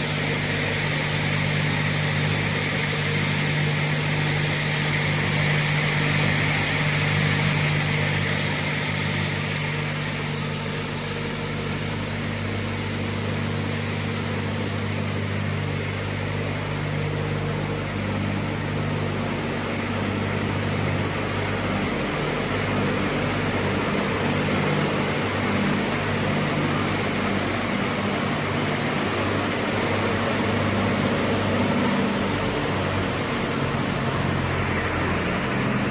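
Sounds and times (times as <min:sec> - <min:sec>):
saw running with loud hum: 0:00.0 - 0:35.9.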